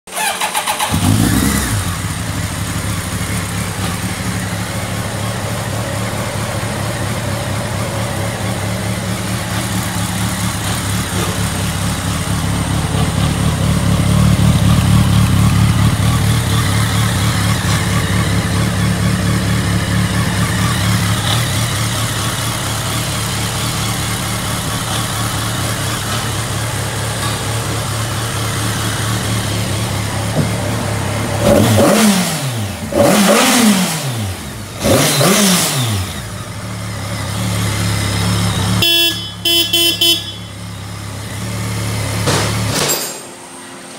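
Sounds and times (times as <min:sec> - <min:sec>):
motorcycle engine starting and idling: 0:00.1 - 0:43.9.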